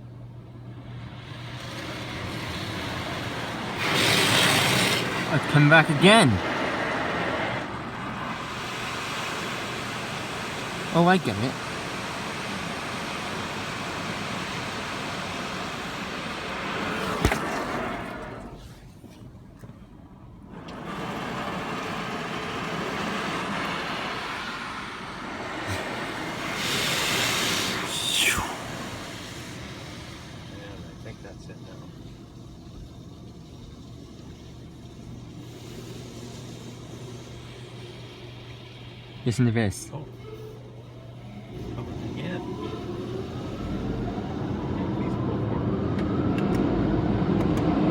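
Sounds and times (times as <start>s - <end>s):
faint hiss: 0.0s - 19.0s, 20.5s - 45.4s
low machine hum: 0.0s - 47.9s
water jets spraying a car: 0.6s - 47.9s.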